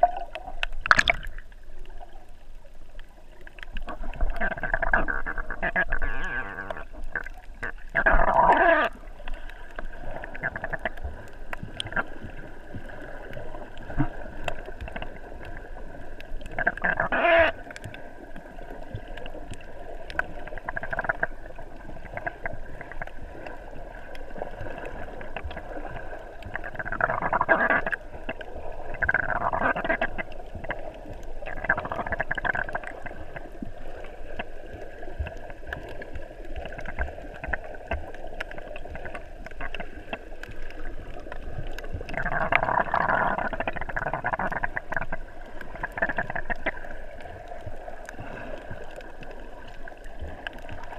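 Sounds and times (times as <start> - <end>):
underwater water movement: 0.0 - 50.9
water rushing bursts: 0.0 - 50.9.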